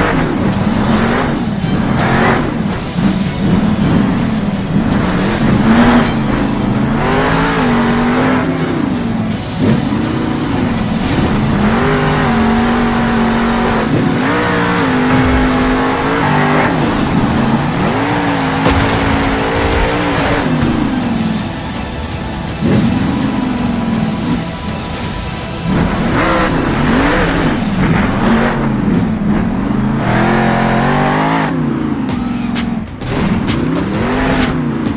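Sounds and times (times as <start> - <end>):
motor revving up and down: 0.0 - 21.6, 25.6 - 34.9.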